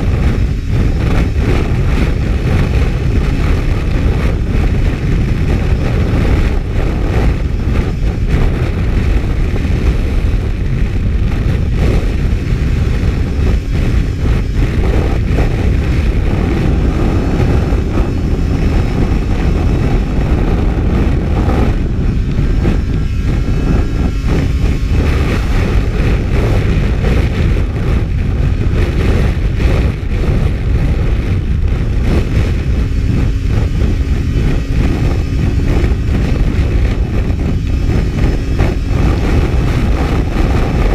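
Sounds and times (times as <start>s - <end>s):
snowmobile engine drone: 0.0s - 40.9s
wind rush: 0.0s - 40.9s.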